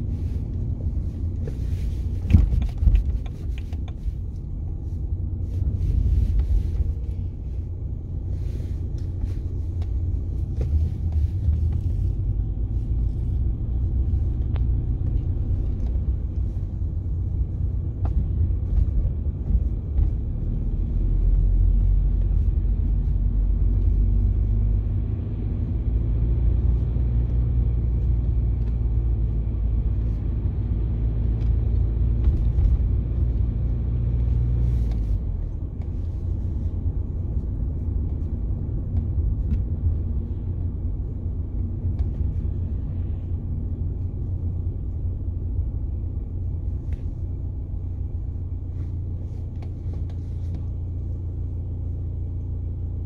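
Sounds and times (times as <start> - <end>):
car interior engine and road rumble: 0.0 - 53.0.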